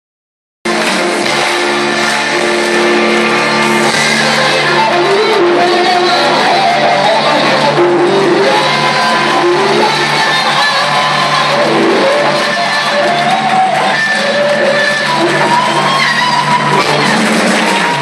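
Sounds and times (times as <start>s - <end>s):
live band music: 0.7s - 18.0s.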